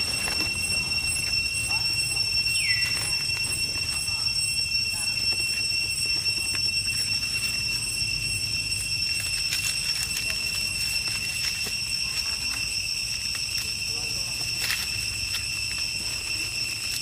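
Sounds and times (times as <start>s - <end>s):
steady high-pitched whine: 0.0s - 17.0s.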